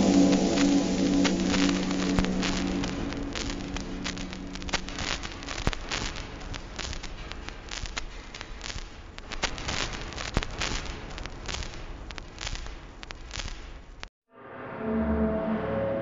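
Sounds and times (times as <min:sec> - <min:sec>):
record crackle and popping: 0:00.0 - 0:14.1.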